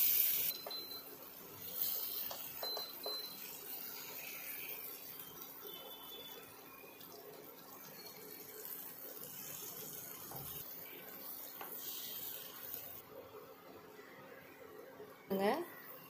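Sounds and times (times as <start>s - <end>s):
slices sizzling in oil: 0.0s - 13.1s.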